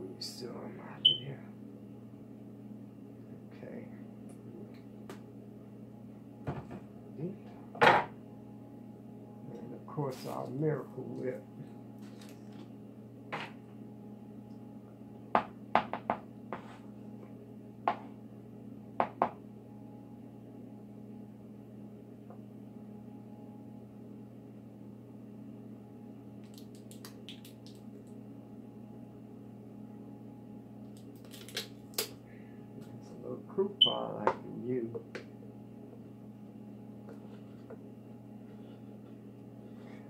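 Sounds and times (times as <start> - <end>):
low electrical hum: 0.0 - 40.0.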